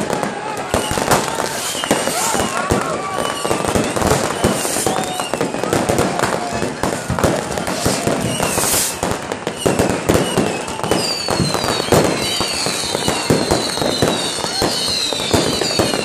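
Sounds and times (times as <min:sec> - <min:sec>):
descending firework whistles: 0:00.0 - 0:16.0
fireworks bangs and crackle: 0:00.0 - 0:16.0.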